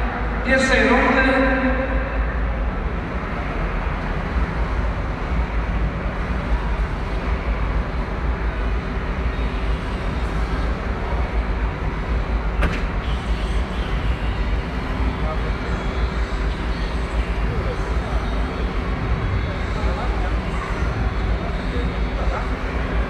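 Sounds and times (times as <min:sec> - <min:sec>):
crowd murmur echoing: 0:00.0 - 0:23.0.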